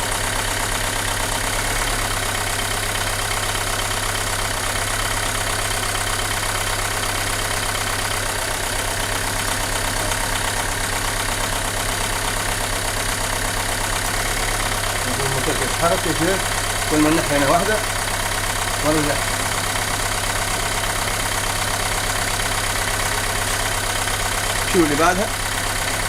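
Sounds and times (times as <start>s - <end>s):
car engine idling roughly: 0.0s - 26.0s.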